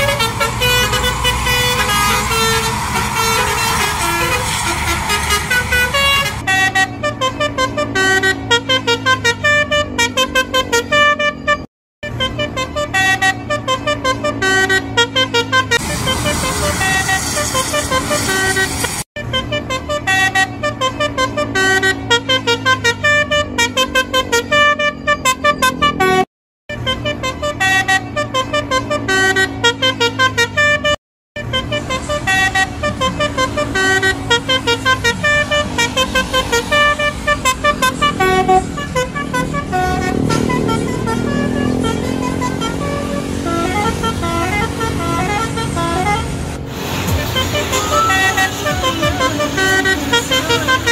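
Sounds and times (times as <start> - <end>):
bus musical horns playing tunes: 0.0 - 50.9
road noise: 0.0 - 50.9.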